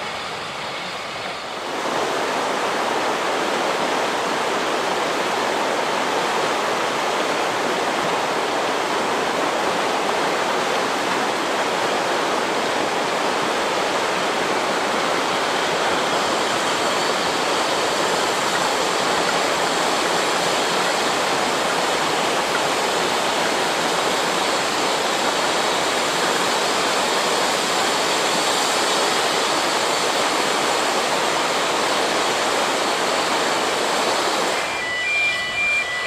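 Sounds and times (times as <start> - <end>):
river rushing over rapids: 0.0 - 36.0.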